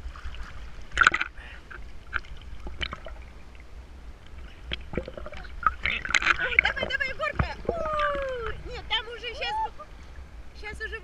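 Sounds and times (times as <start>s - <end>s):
low steady rumble: 0.0s - 11.0s
sea water lapping and splashing: 0.0s - 11.0s.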